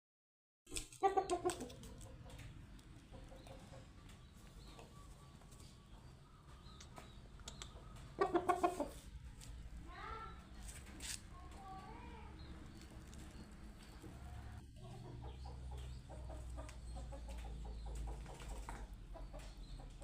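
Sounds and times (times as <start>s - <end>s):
chickens clucking: 0.8s - 20.0s.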